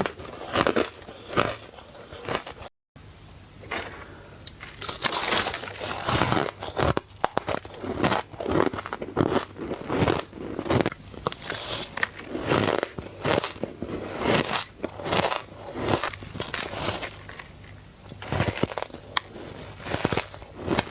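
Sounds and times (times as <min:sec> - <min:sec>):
ice crunching between teeth: 0:00.0 - 0:02.7, 0:04.5 - 0:20.9.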